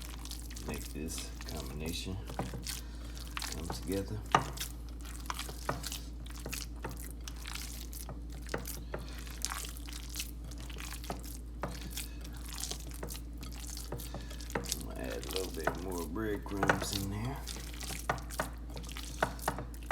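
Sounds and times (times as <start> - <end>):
hands squelching wet meat mix: 0.0 - 19.9
steady low hum: 0.0 - 19.9.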